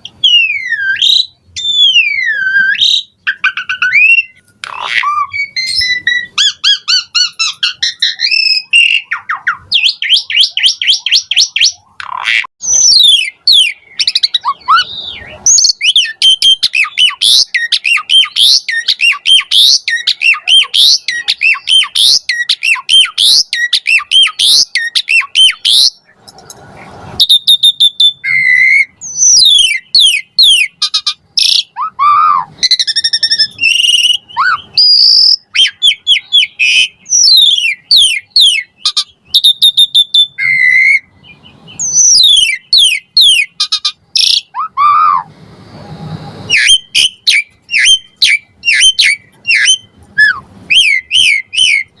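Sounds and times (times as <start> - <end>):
starling singing: 0.0 - 26.2, 26.8 - 45.3, 46.5 - 52.0.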